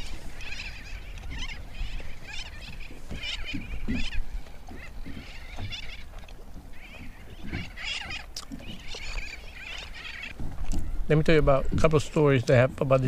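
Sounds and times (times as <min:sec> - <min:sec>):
birds chattering: 0:00.0 - 0:12.8.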